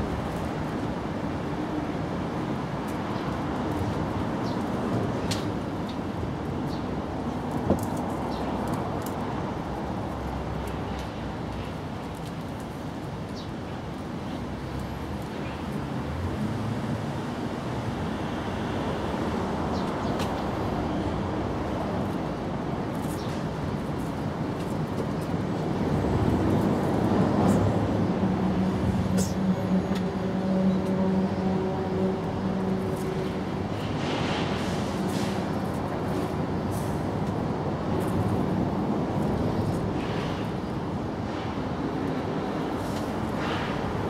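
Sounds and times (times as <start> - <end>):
road traffic noise: 0.0 - 44.0.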